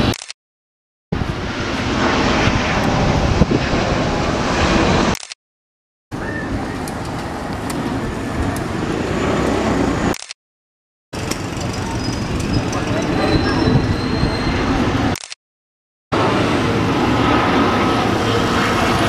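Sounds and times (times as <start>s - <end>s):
jet airliner engine noise: 0.0s - 0.2s, 1.2s - 5.4s, 6.1s - 10.4s, 11.2s - 15.4s, 16.1s - 19.0s
turboprop engine noise: 1.1s - 5.4s, 6.1s - 10.4s, 11.2s - 15.4s, 16.1s - 19.0s.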